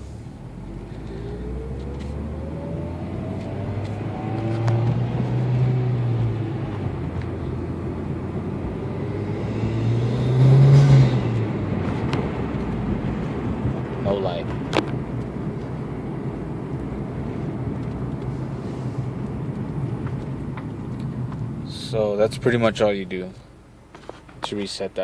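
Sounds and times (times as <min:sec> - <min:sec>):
car engine accelerating: 0:00.0 - 0:22.7.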